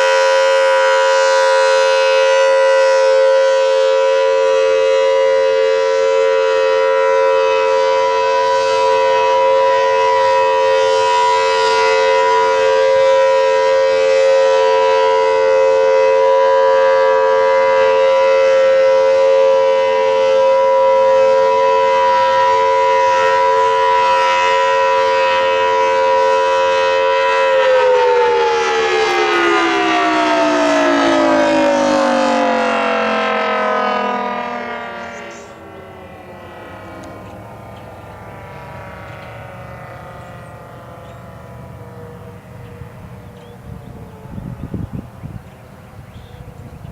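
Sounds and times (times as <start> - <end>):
warning siren wailing: 0.0 - 46.9.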